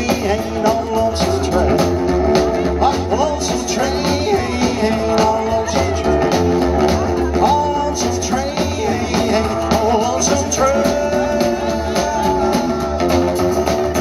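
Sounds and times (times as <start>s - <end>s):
rockabilly band playing: 0.0s - 14.0s.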